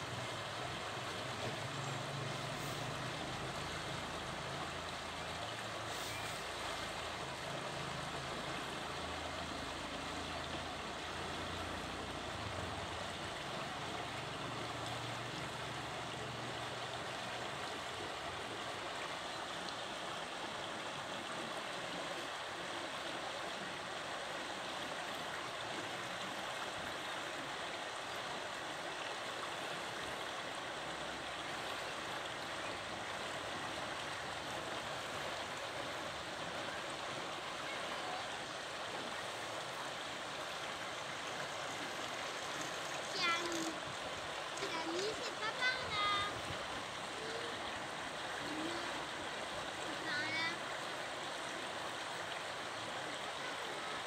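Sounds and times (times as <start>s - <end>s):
river water babbling over stones: 0.0s - 54.0s.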